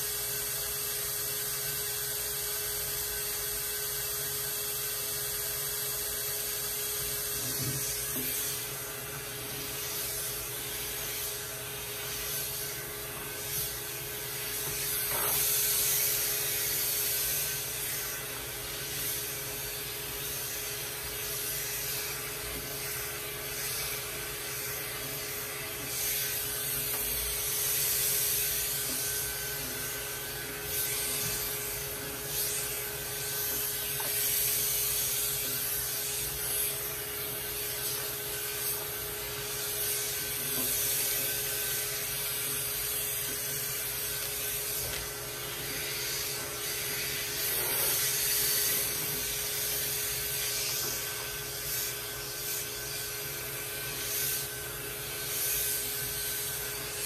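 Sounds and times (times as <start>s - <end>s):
electric clipper buzzing: 0.0s - 57.0s.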